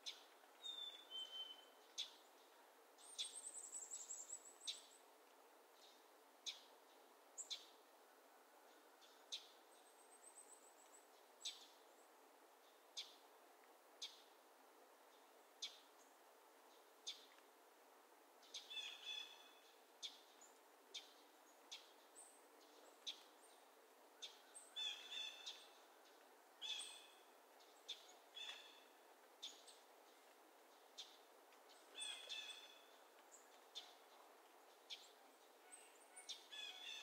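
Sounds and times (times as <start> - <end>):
soft steady hiss: 0.0 - 37.0.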